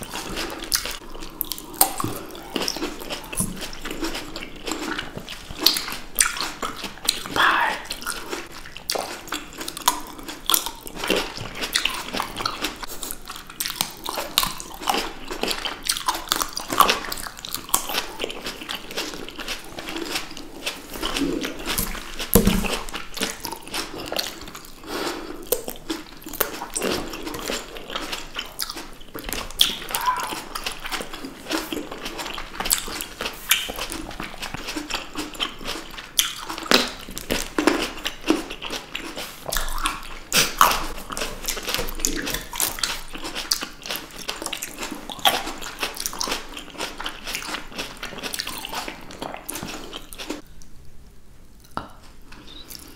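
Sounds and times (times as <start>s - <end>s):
chewing juicy fruit: 0.0s - 50.7s, 51.6s - 52.9s.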